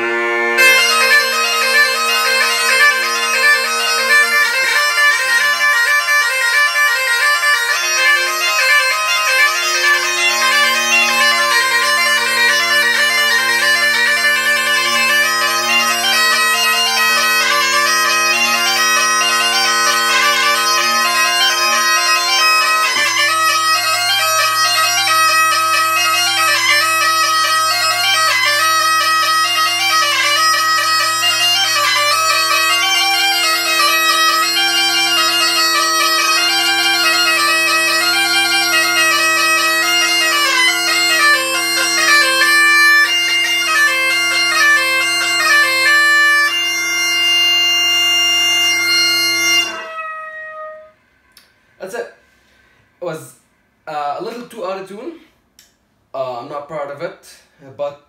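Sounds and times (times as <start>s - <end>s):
bagpipe drones: 0.0s - 52.9s
bagpipe chanter melody: 0.0s - 53.0s.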